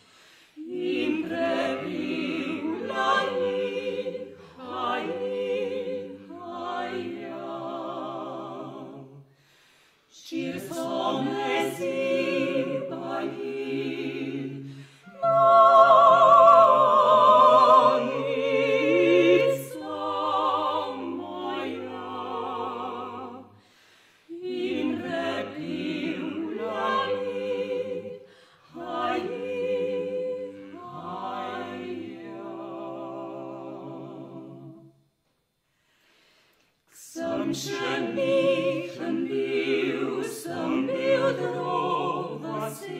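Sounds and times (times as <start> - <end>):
vocal quartet singing unaccompanied: 0.0 - 35.1, 35.8 - 42.9.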